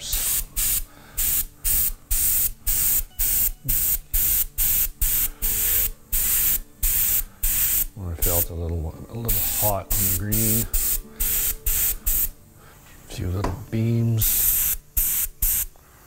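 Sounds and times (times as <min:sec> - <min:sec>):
airbrush spraying hiss: 0:00.0 - 0:08.6, 0:09.2 - 0:12.4, 0:14.2 - 0:15.8.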